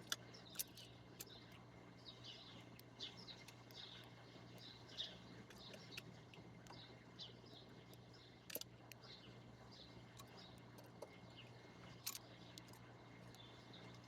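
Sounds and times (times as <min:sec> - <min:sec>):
small birds chirping: 0:00.0 - 0:08.4, 0:09.0 - 0:14.0.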